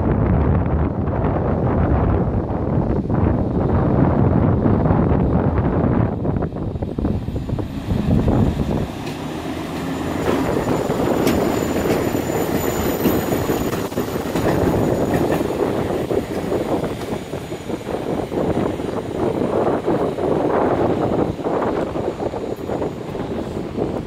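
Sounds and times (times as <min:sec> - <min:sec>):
rumble of locomotive wheels: 0:00.0 - 0:24.0
wind buffeting microphone: 0:00.0 - 0:24.0.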